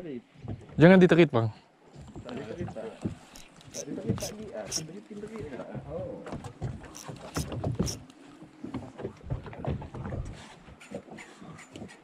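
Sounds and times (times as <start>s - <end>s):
water lapping against boat hull: 1.9s - 12.0s.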